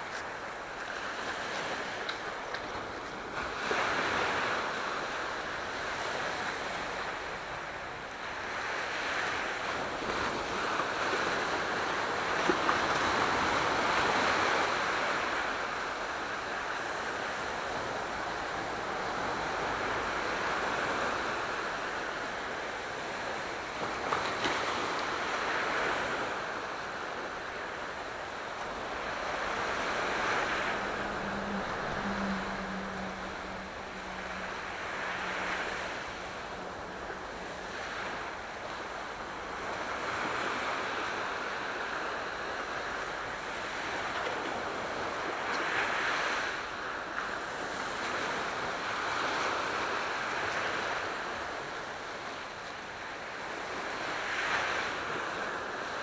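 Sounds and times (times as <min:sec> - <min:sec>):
waves surging onto shore: 0:00.0 - 0:56.0.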